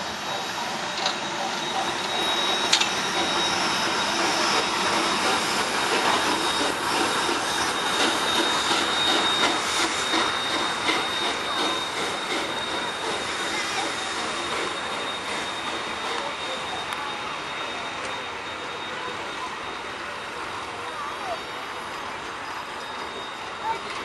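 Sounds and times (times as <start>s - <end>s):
steam locomotive running gear beat: 0.0s - 24.0s
wheels squealing on rails: 0.0s - 24.0s.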